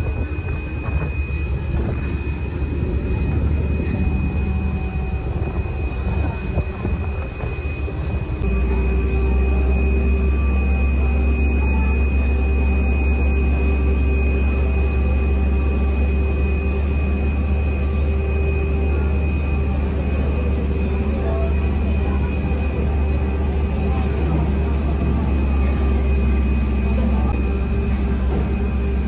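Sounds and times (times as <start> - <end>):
machine drone with low hum: 0.0 - 29.0
thin high whine: 0.0 - 29.0.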